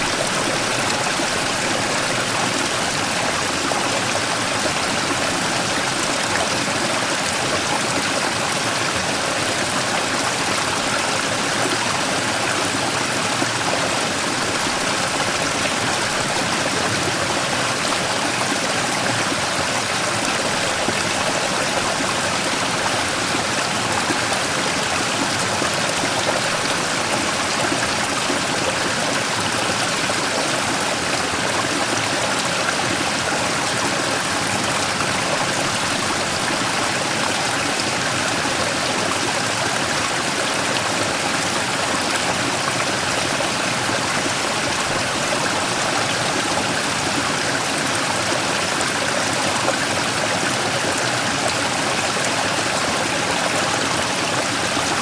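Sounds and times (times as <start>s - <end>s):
stream rushing over rock: 0.0s - 55.0s.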